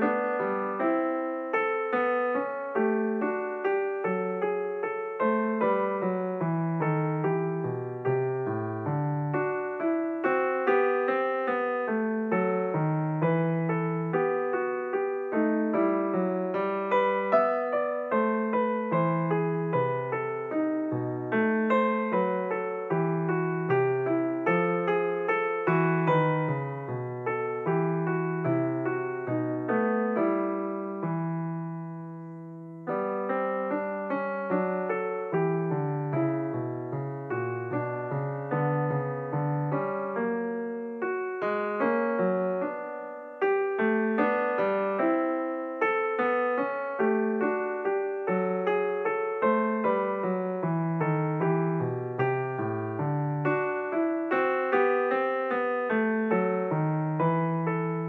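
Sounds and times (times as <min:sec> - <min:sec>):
background piano music: 0:00.0 - 0:58.0.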